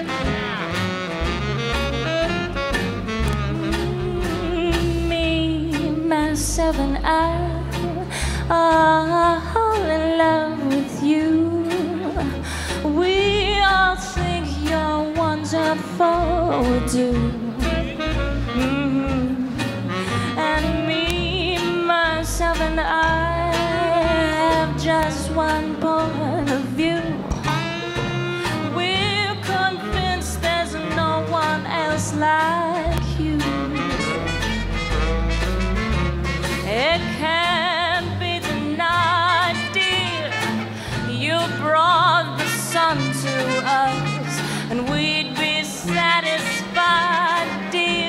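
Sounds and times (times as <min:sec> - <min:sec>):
swing jazz band playing: 0:00.0 - 0:48.0
woman singing: 0:03.5 - 0:17.8, 0:18.5 - 0:27.7, 0:28.7 - 0:34.2, 0:36.6 - 0:40.4, 0:41.0 - 0:48.0.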